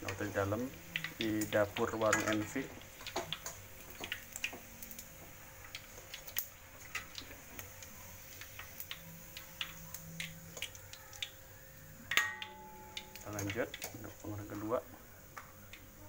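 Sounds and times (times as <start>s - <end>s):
chicken deep-frying in oil: 0.0s - 16.0s
faint steady hum: 0.0s - 16.0s.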